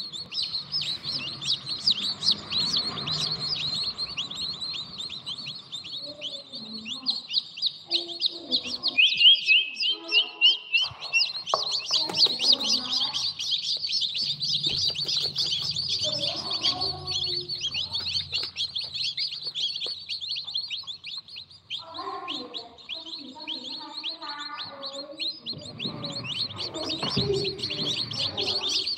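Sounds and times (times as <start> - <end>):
baby birds chirping: 0.0 - 28.9.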